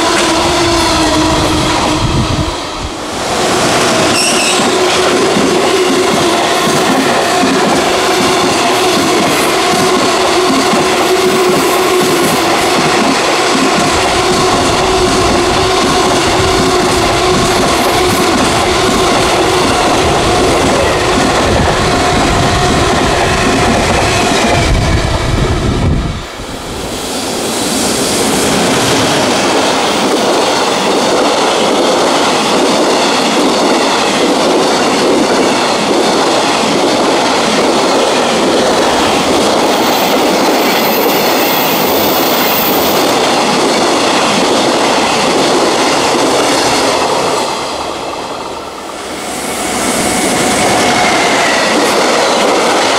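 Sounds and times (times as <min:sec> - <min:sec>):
train wheels roaring and clacking: 0:00.0 - 0:52.9.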